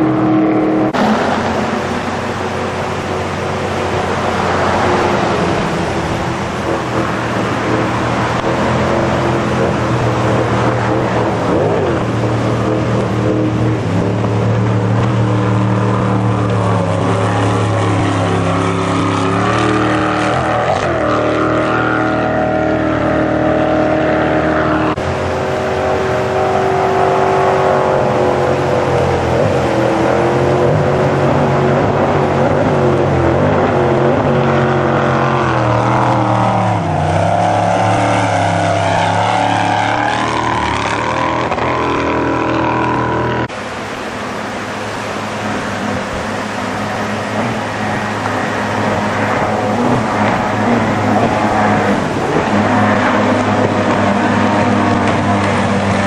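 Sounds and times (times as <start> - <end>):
jet boat engine revving: 0.0 - 56.0.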